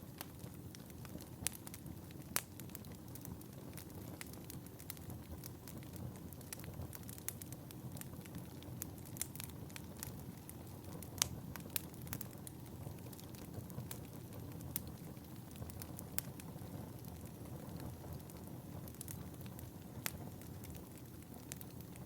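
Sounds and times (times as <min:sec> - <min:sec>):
fire popping and snapping: 0:00.0 - 0:22.0
fire rumbling: 0:00.0 - 0:22.0.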